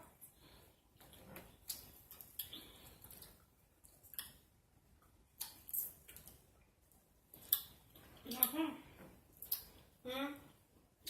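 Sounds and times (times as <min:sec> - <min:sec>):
faint eating clicks and smacks: 0:00.0 - 0:11.0.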